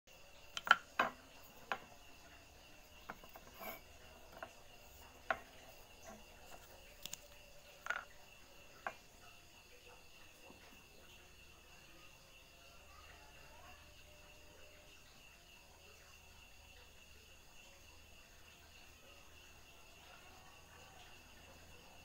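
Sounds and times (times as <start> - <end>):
faint high-pitched hum: 0.1 - 22.0.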